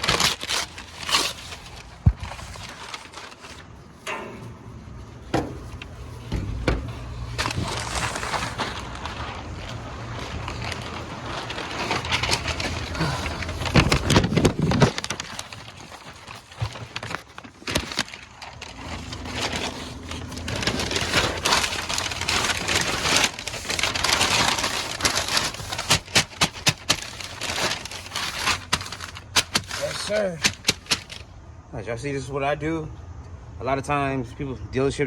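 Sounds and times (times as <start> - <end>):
paper crackling and rustling: 0.0 - 31.4.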